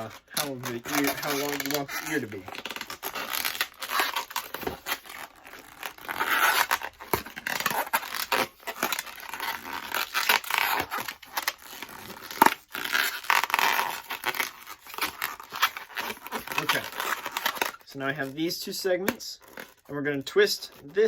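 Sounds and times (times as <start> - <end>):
balloon rubber squeaking: 0.0 - 18.5.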